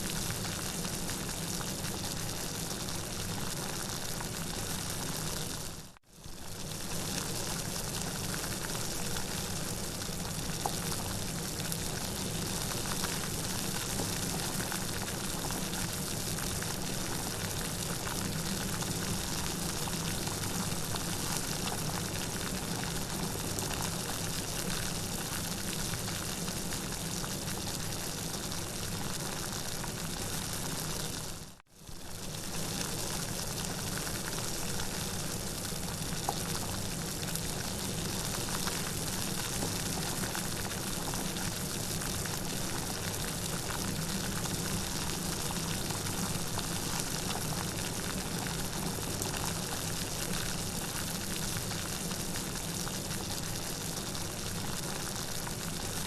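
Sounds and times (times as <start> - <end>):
steady rain: 6.6 - 56.0.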